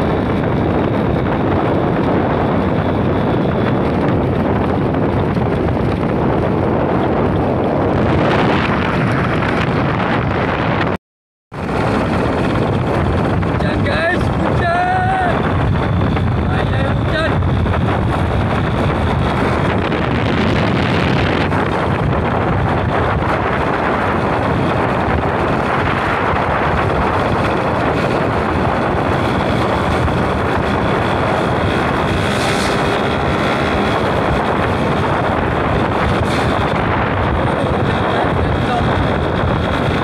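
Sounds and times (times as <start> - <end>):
road noise: 0.0 - 40.0
vehicle engine: 0.0 - 40.0
wind on microphone: 0.0 - 40.0.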